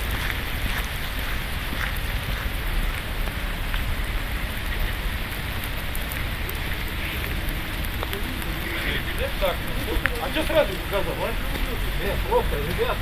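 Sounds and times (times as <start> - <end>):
low rumble: 0.0 - 12.3.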